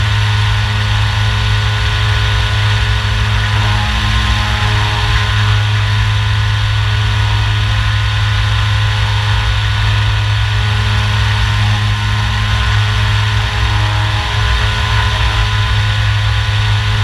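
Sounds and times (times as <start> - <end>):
electric motor and propeller drone: 0.0 - 17.0.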